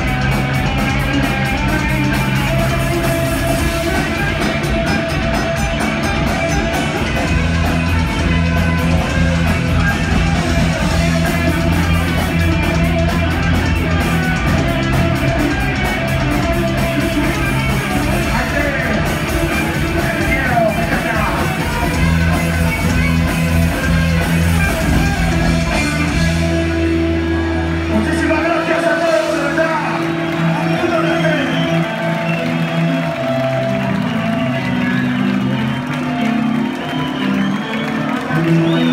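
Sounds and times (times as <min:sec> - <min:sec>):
punk rock band playing: 0:00.0 - 0:38.9.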